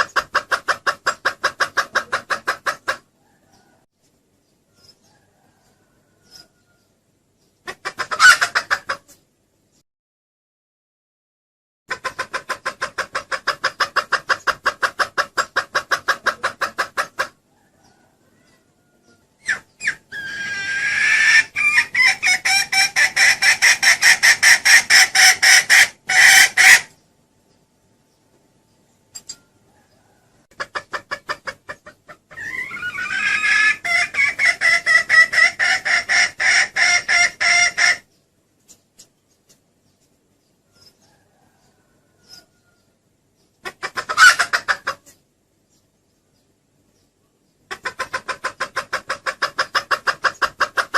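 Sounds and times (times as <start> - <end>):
junglefowl hen clucking: 0.0 - 9.8, 11.9 - 27.0, 29.2 - 45.9, 46.9 - 50.9.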